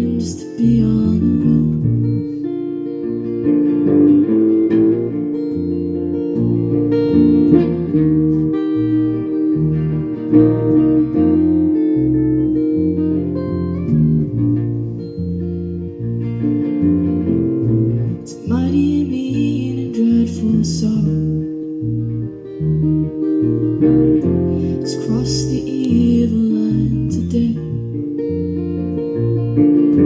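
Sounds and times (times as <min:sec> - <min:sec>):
instrumental guitar playing: 0:00.0 - 0:30.0.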